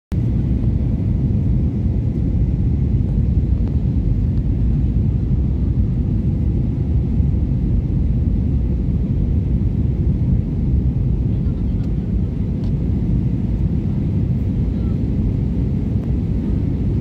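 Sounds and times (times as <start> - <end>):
airliner cabin engine rumble: 0.1 - 17.0.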